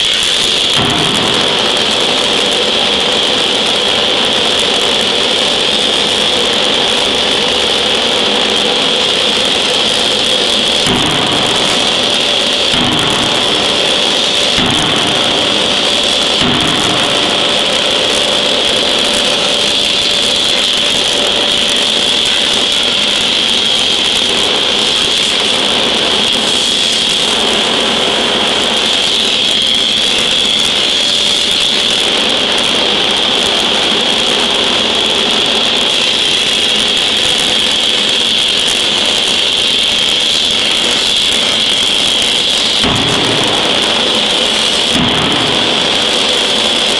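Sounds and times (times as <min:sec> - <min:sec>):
machinery hiss with high whine: 0:00.0 - 0:46.9.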